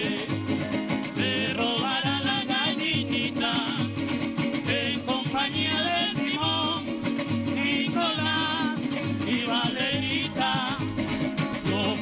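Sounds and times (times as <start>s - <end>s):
men singing with vibrato: 0.0s - 12.0s
strummed cuatros: 0.0s - 12.0s.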